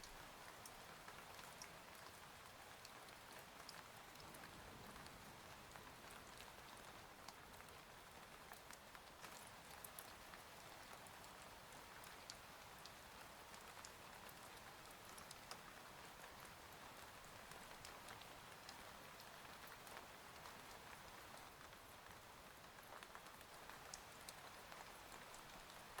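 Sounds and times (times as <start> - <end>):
faint steady rain: 0.0 - 26.0.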